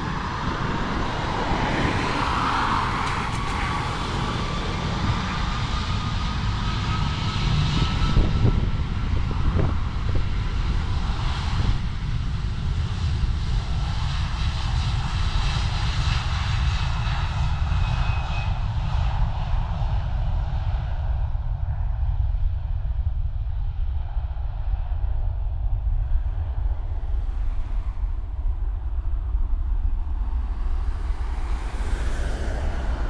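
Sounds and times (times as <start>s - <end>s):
rising engine whine: 0.0s - 14.2s, 17.6s - 33.0s
jet engines at takeoff: 0.0s - 33.0s.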